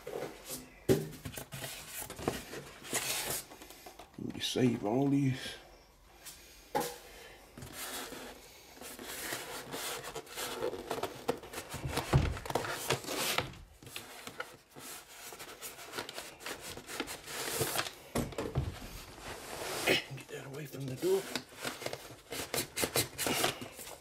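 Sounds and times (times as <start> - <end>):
foam packing rustling on cardboard: 0.0 - 4.1, 7.6 - 24.0.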